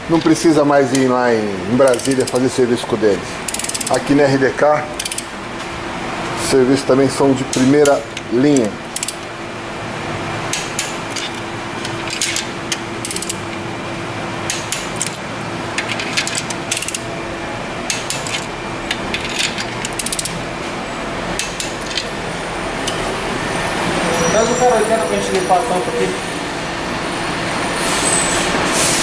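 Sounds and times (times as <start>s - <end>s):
steady hum: 0.0s - 27.6s.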